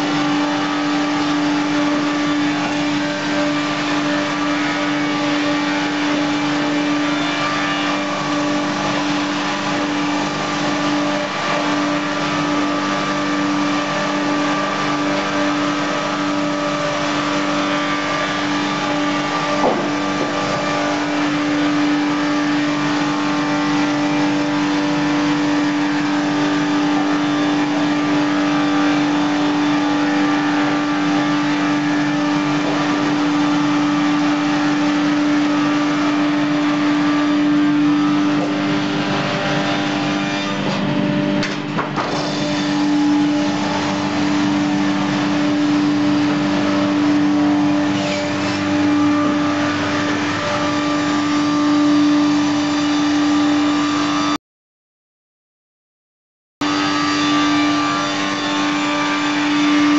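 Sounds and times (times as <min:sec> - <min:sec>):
sawmill machinery humming: 0:00.0 - 0:54.4, 0:56.6 - 0:59.9.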